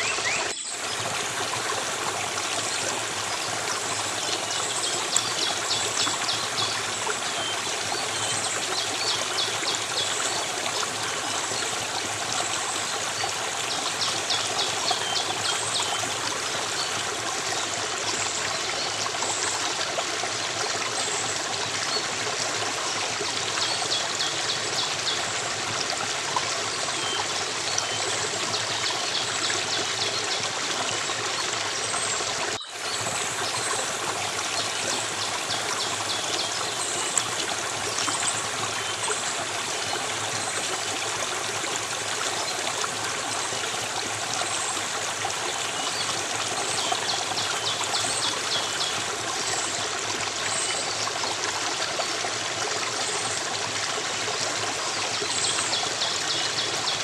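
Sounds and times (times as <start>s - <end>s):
stream water rushing and trickling: 0.0s - 57.0s.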